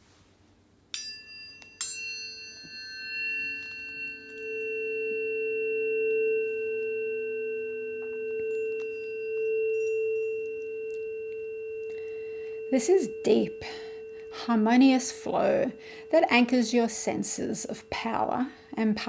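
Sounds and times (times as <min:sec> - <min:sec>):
tuning fork struck: 0:00.9 - 0:19.0
tuning forks ringing: 0:00.9 - 0:19.0.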